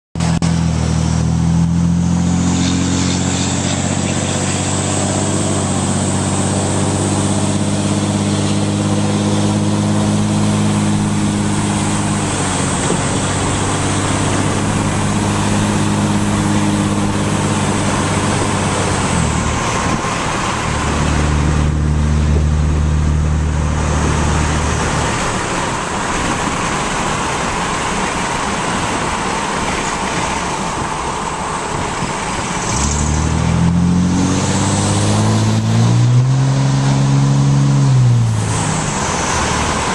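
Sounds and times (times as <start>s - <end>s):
diesel engine droning inside cab: 0.2s - 39.9s.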